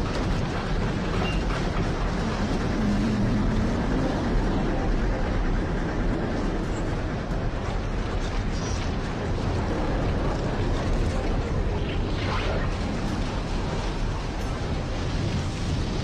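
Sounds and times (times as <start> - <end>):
floodwater rushing: 0.0 - 5.6, 7.7 - 16.0.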